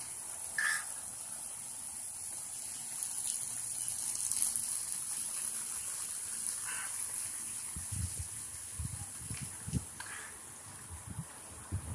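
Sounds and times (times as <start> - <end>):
sprinkler spraying water: 0.0 - 11.9.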